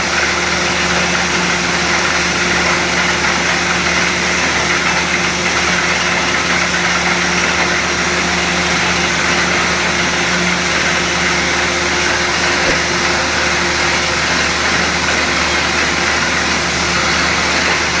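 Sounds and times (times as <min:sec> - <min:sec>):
compressor rushing noise: 0:00.0 - 0:18.0
drilling rig engine drone: 0:00.0 - 0:18.0.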